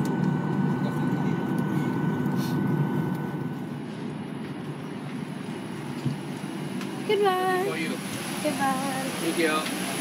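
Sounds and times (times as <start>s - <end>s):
thin steady whine: 0.0s - 9.7s
aircraft cabin engine rumble: 0.0s - 10.0s.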